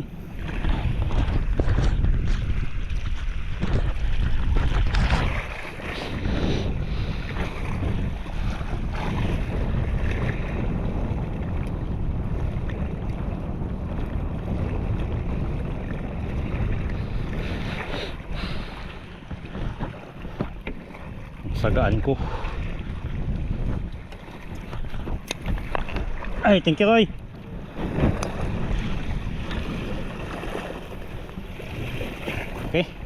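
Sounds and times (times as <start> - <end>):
water washing around boat: 0.0 - 33.0
wind buffeting microphone: 0.0 - 33.0.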